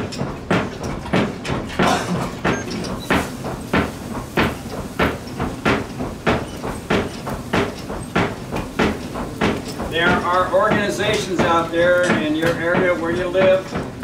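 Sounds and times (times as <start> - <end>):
hammer striking iron on anvil: 0.0 - 13.9.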